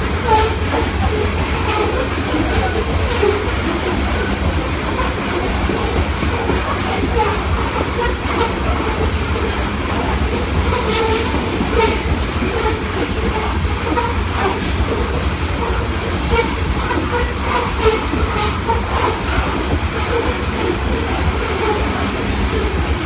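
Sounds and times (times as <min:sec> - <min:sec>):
train wheels rumbling on rail: 0:00.0 - 0:23.0
wheels clicking over rail joints: 0:00.0 - 0:23.0.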